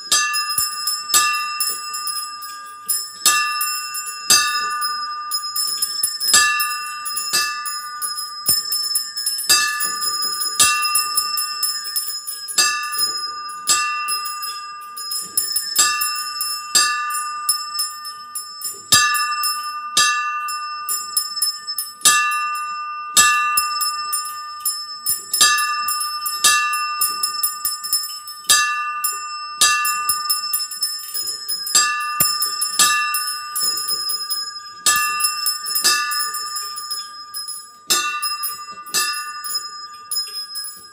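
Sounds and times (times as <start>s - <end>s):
small bells ringing: 0.0s - 40.9s.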